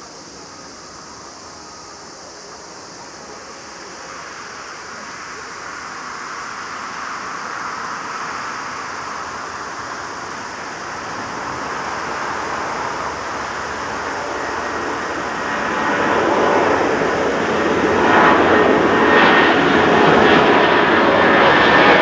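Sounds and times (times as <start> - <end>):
jet engines roaring at take-off: 0.0 - 22.0.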